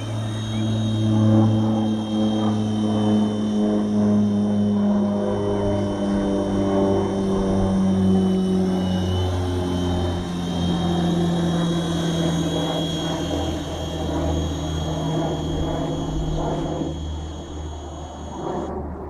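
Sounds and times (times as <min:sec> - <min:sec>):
toy helicopter whirring: 0:00.0 - 0:18.7.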